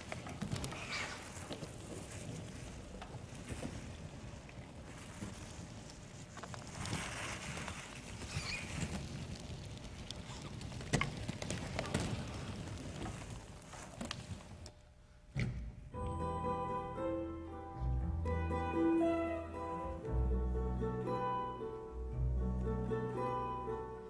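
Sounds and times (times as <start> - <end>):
dancers rustling and shuffling: 0.0 - 24.0.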